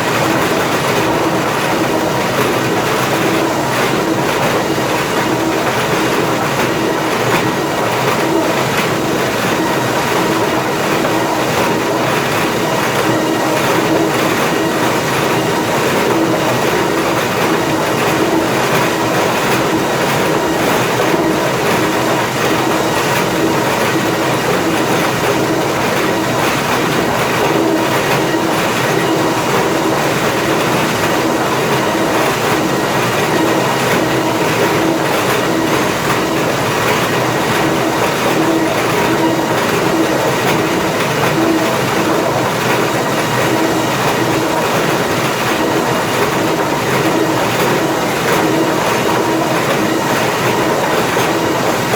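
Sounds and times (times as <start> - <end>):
machinery hum: 0.0 - 51.9
rattling conveyor chains and boards: 0.0 - 51.9.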